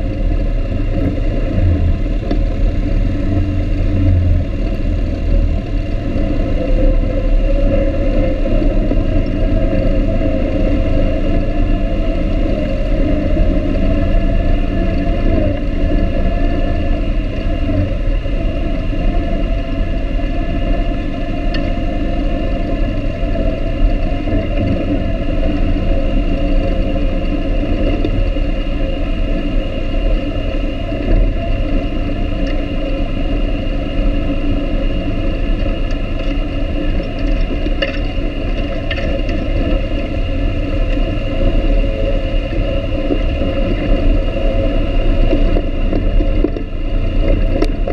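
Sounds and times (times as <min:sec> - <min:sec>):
atv engine droning: 0:00.0 - 0:47.9.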